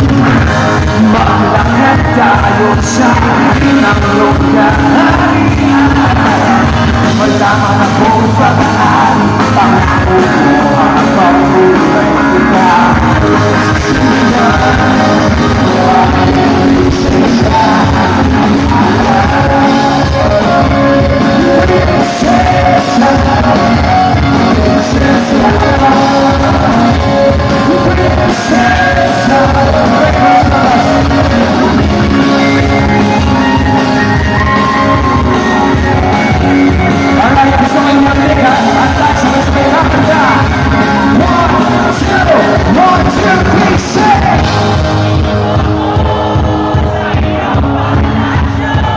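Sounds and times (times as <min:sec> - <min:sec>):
live rock band playing: 0:00.0 - 0:48.9
person singing: 0:00.0 - 0:48.9.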